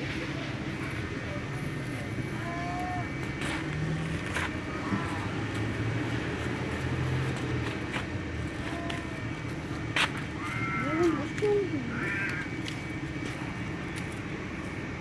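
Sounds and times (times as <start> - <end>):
low motor-like hum: 0.0 - 15.0.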